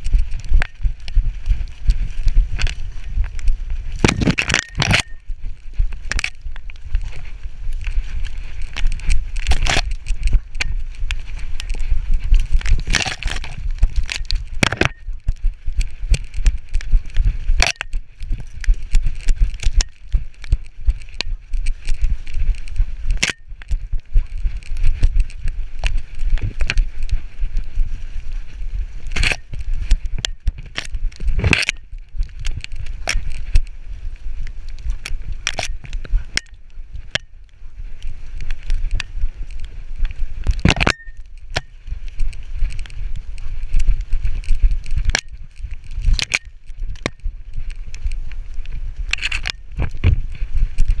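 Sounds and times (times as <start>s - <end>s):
camera handling rumble: 0.0s - 51.0s.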